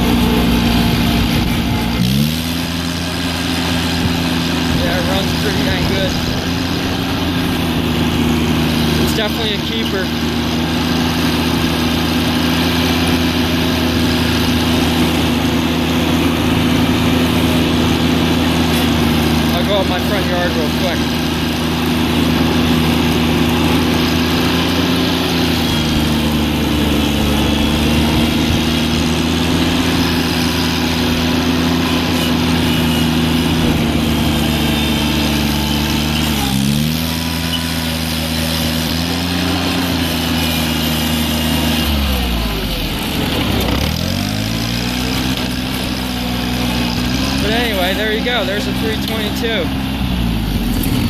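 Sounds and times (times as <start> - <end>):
garden tractor engine running: 0.0 - 51.0.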